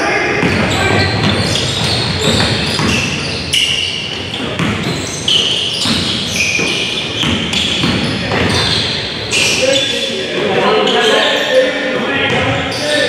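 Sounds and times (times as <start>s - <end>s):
sneakers squeaking on court: 0.3s - 13.0s.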